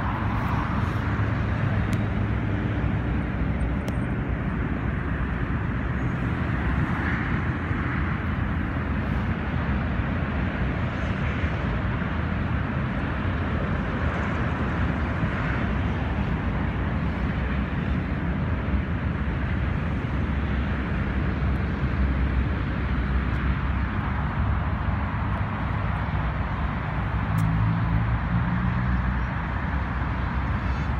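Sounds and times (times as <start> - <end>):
road traffic: 0.0 - 30.9
wind rumbling on microphone: 0.0 - 30.9.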